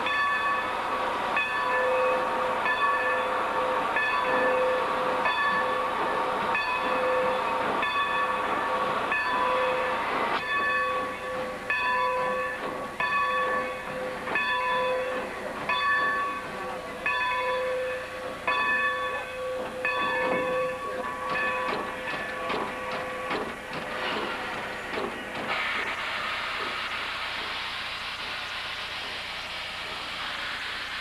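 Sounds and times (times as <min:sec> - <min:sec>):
steam hissing: 0:00.0 - 0:31.0.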